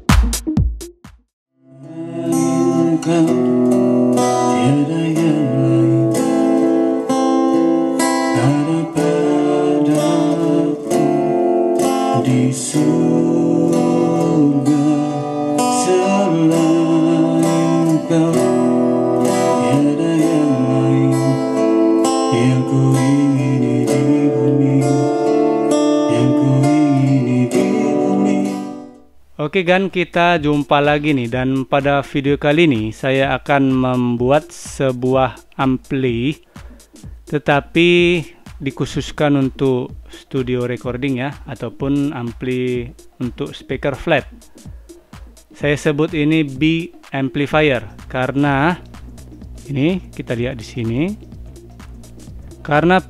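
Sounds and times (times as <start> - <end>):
acoustic guitar music: 1.6 - 29.2, 30.0 - 53.0.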